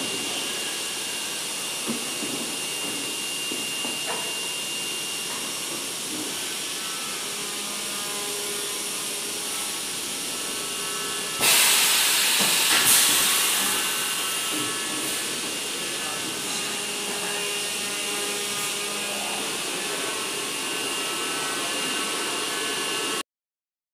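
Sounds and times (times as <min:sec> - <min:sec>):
machine hissing with high whine: 0:00.0 - 0:23.2.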